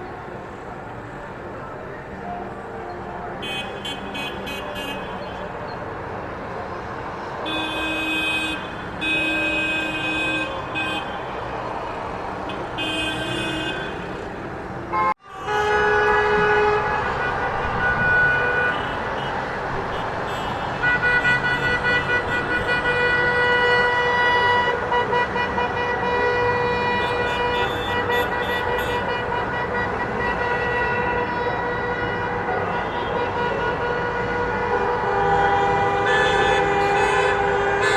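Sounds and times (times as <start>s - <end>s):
street background din: 0.0s - 37.9s
horns honking: 3.4s - 5.6s, 7.4s - 11.5s, 12.4s - 37.9s.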